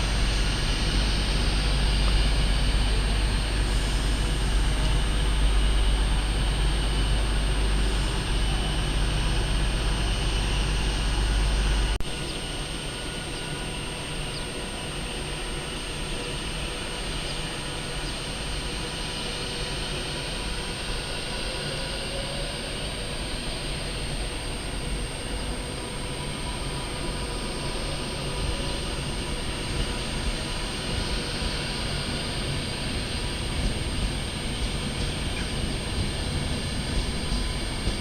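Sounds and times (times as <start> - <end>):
steady hum and hiss: 0.0 - 38.0
train rumble: 0.0 - 38.0.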